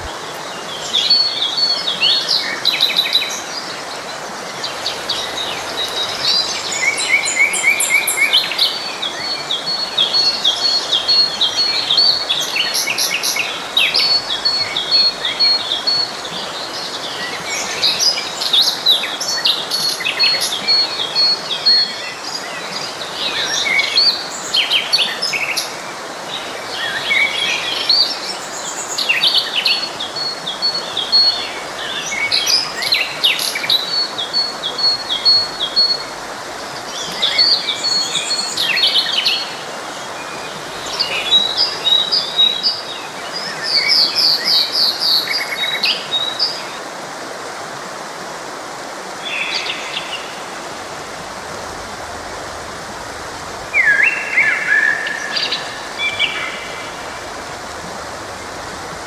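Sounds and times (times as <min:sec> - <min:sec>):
songbirds singing: 0:00.0 - 0:46.8, 0:49.2 - 0:59.0
stream running: 0:00.0 - 0:59.0.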